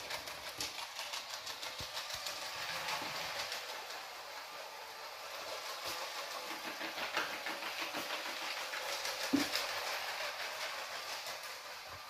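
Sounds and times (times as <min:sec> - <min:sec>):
toy train motor hum: 0:00.0 - 0:12.0
toy train wheels clicking: 0:00.0 - 0:12.0.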